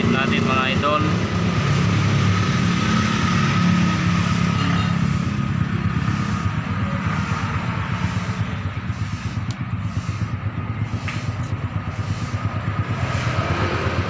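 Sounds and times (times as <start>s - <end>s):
small motorcycle engine running: 0.0s - 14.0s.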